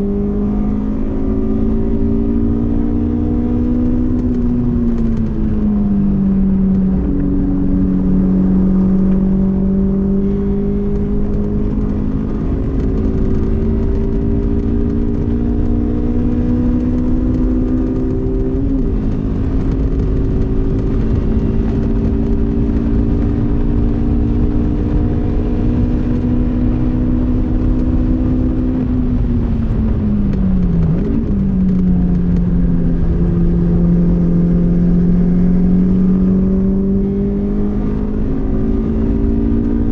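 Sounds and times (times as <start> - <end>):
car engine accelerating: 0.0 - 39.9
road and wind rumble: 0.0 - 39.9.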